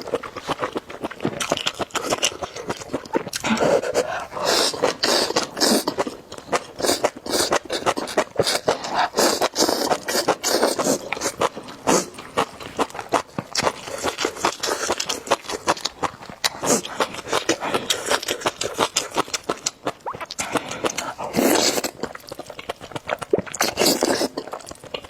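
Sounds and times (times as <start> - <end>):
slurping and chewing noodles: 0.0 - 25.0.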